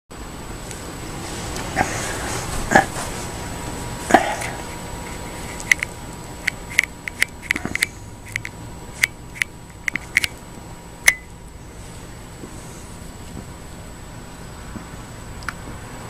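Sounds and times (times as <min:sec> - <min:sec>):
faint steady hum: 0:00.1 - 0:16.0.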